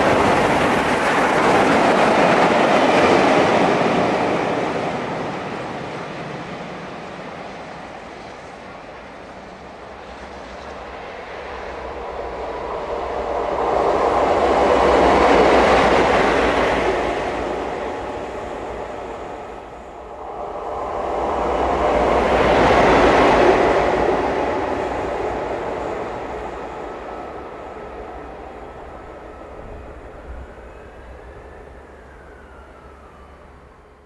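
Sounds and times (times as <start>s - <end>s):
train passing at speed: 0.0s - 34.0s.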